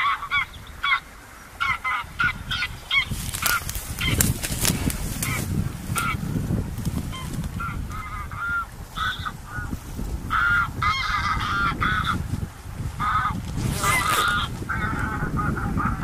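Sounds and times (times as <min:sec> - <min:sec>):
geese honking: 0:00.0 - 0:06.3, 0:07.1 - 0:12.2, 0:13.0 - 0:16.0
wind rumbling on microphone: 0:00.0 - 0:16.0.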